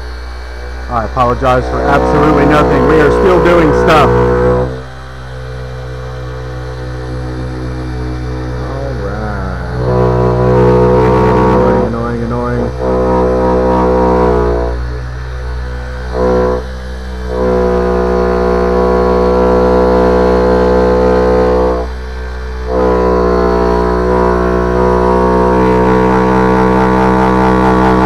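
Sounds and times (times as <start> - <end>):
polisher buzzing drone: 0.0 - 28.0.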